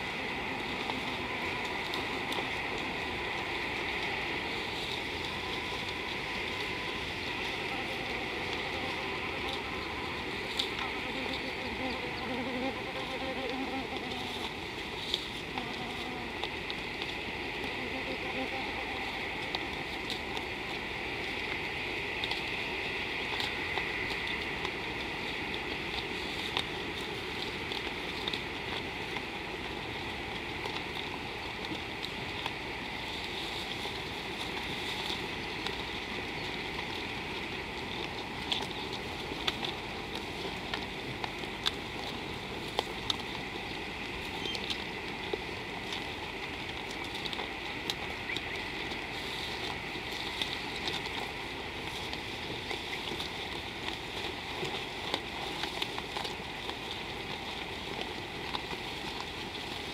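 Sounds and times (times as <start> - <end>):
even outdoor hiss: 0.0 - 59.9
light ticks: 0.6 - 59.9.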